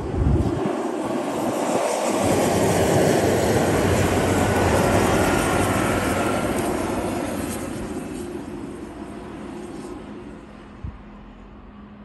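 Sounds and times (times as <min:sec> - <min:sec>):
passenger train rushing roar: 0:00.0 - 0:12.0.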